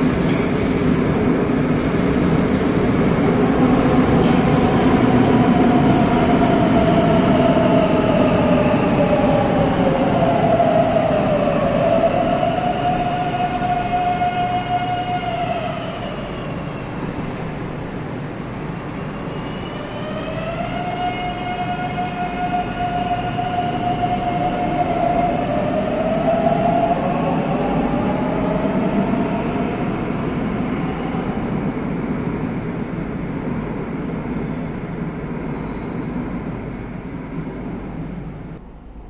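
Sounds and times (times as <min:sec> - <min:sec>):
train rumble: 0:00.0 - 0:39.0.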